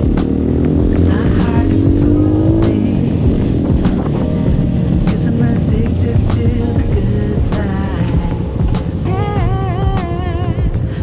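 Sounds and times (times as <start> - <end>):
dirt bike engine running: 0.0 - 10.9
background music: 0.0 - 11.0.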